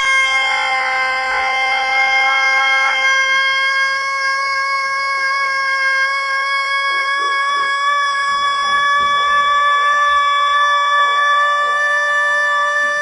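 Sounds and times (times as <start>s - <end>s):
rooster crowing long note: 0.0s - 13.0s.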